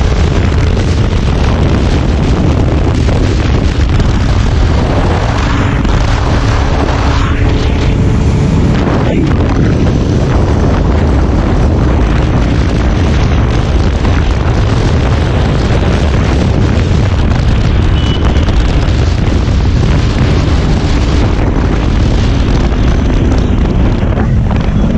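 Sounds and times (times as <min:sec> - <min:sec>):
motorcycle engine rumble: 0:00.0 - 0:24.9
wind buffeting microphone: 0:00.0 - 0:24.9.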